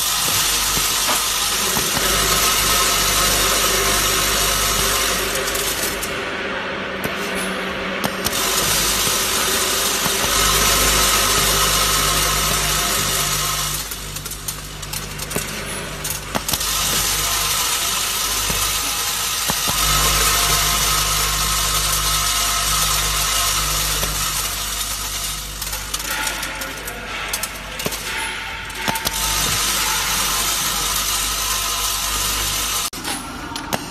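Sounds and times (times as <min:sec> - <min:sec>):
machine humming: 0:00.0 - 0:33.9.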